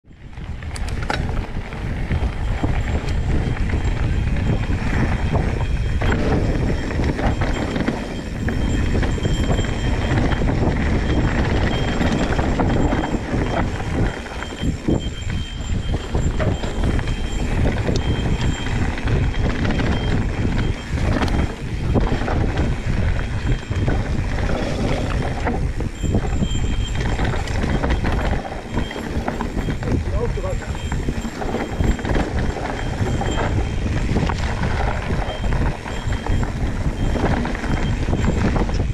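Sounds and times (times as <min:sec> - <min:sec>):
wind noise: 0:00.0 - 0:38.9
bike tyres rumbling on dirt: 0:00.1 - 0:38.9
bike knocks and rattles: 0:00.3 - 0:38.9.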